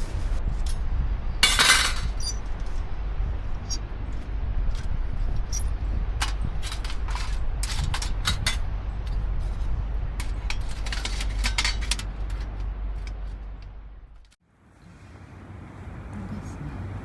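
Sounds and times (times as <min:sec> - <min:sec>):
wind rumbling on microphone: 0:00.0 - 0:14.2.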